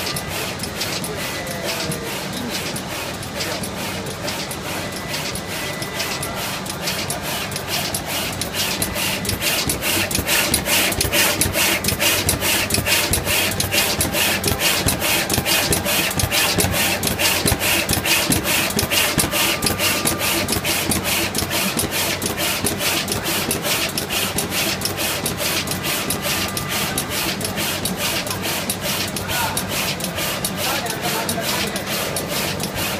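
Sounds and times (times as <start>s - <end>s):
rapid machine clicking: 0.0s - 32.9s
steady machine hum: 0.0s - 32.9s.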